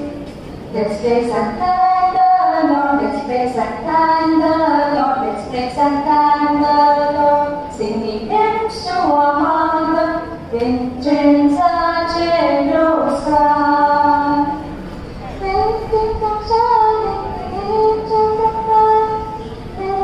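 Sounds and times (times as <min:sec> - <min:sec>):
children singing a hymn: 0:01.0 - 0:20.0.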